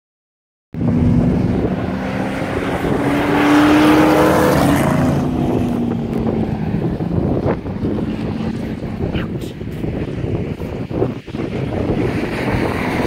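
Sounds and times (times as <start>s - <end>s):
race car engines passing: 0.8s - 13.0s.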